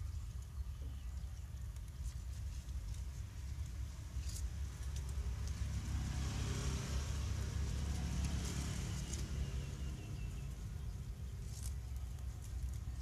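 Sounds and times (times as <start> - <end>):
low rumble with hiss: 0.0 - 13.0
leaves rustling and snapping: 1.6 - 13.0.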